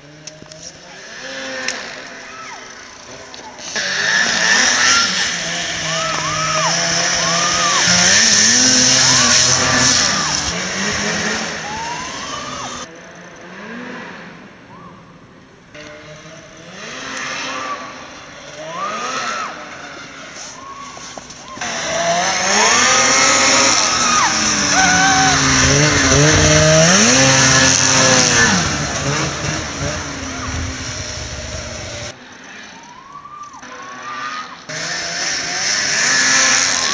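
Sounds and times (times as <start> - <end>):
snowmobile engines revving: 0.0 - 15.0, 15.7 - 32.6, 33.6 - 36.9.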